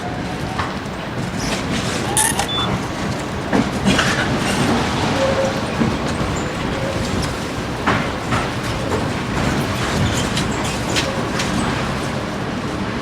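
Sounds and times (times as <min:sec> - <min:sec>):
tram rumbling on rails: 0:00.0 - 0:13.0
wheels clicking on track: 0:00.4 - 0:12.2.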